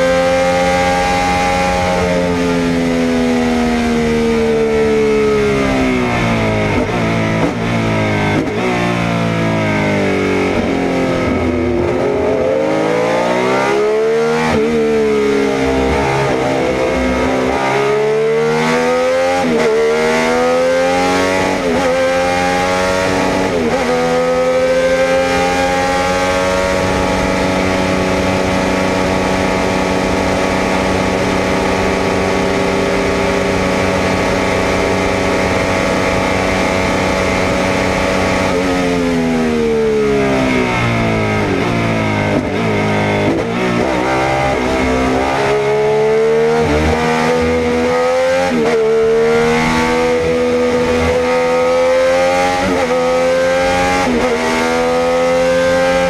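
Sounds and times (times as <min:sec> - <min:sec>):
racing engine accelerating: 0:00.0 - 0:56.0.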